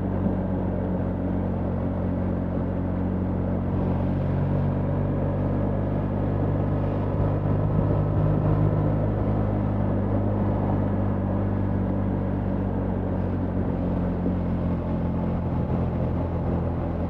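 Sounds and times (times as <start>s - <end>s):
motorcycle engine hum: 0.0s - 17.0s.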